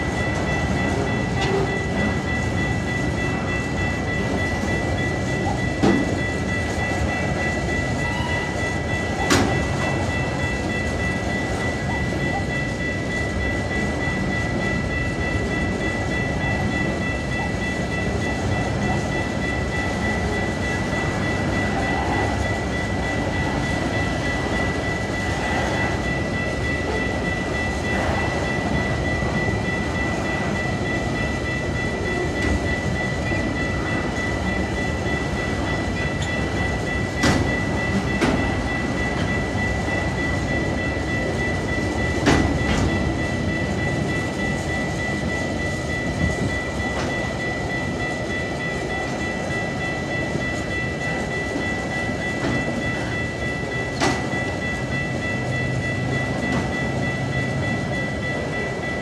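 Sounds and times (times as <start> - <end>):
steady high tone: 0.0 - 59.0
train wheels rumbling and clacking: 0.0 - 59.0.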